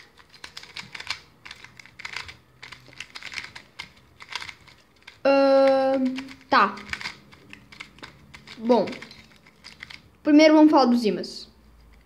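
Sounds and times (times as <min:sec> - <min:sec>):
puzzle cube clacking: 0:00.0 - 0:10.1.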